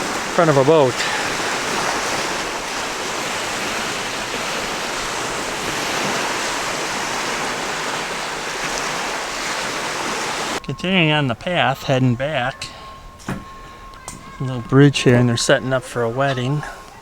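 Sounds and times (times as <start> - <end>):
waves washing on shore: 0.0 - 17.0.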